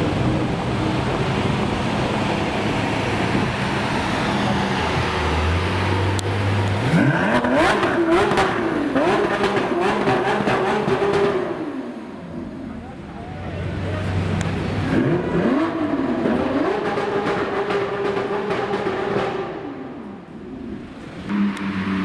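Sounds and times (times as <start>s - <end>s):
sports car engine revving: 0.0s - 12.6s, 13.7s - 22.0s
traffic noise: 0.0s - 22.0s.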